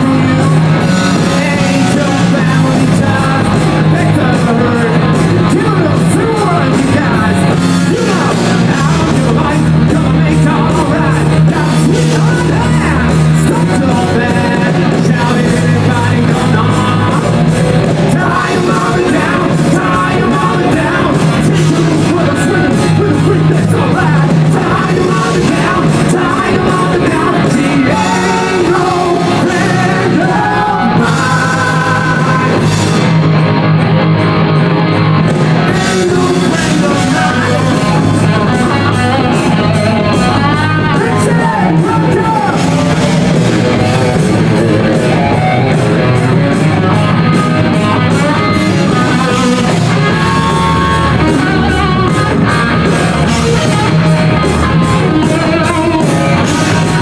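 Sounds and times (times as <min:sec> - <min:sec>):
man singing: 0:00.0 - 0:33.0, 0:35.4 - 0:57.0
drums: 0:00.0 - 0:57.0
heavy guitars: 0:00.0 - 0:57.0
rock song: 0:00.0 - 0:57.0.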